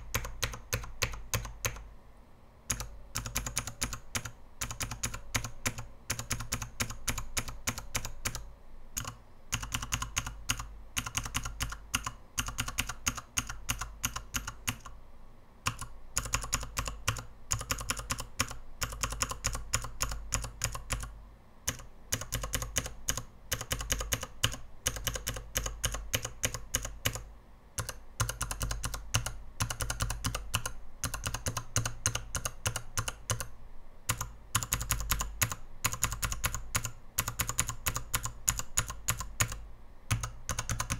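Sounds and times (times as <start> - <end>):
mechanical keyboard clacking: 0.0 - 1.9, 2.7 - 14.9, 15.7 - 21.1, 21.7 - 33.5, 34.1 - 40.9.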